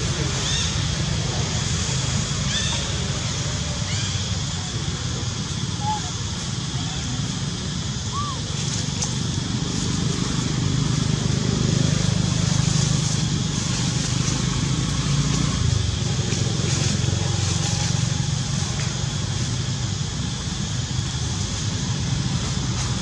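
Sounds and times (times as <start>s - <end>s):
high hiss: 0.0s - 23.0s
low engine hum: 0.0s - 23.0s.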